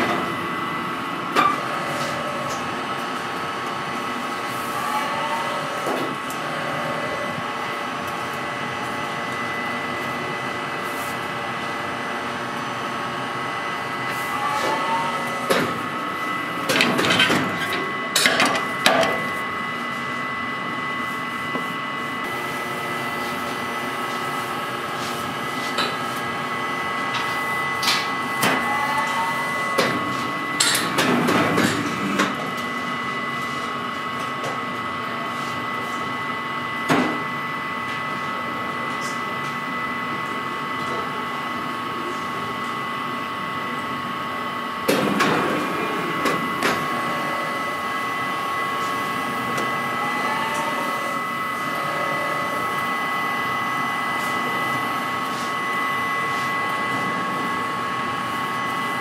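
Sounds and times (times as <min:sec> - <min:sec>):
oven machine humming: 0:00.0 - 0:59.0.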